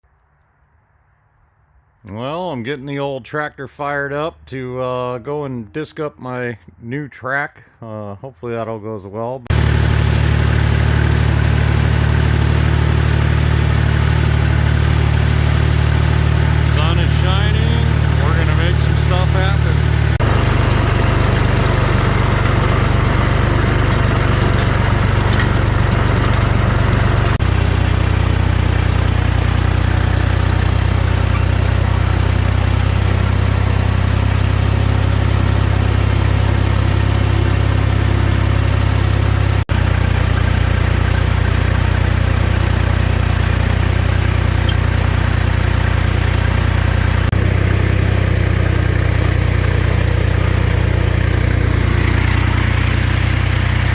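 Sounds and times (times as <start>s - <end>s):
tractor engine running: 9.5s - 53.9s.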